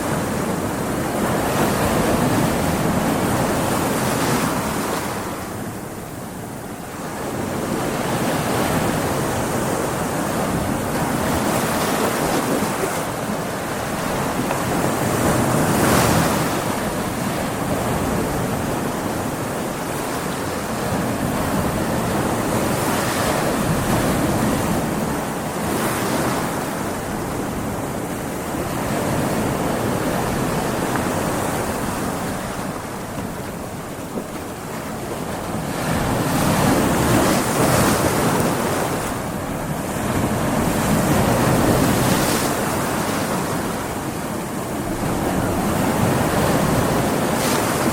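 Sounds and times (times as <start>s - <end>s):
waves breaking and surging: 0.0s - 47.9s
wind: 0.0s - 47.9s.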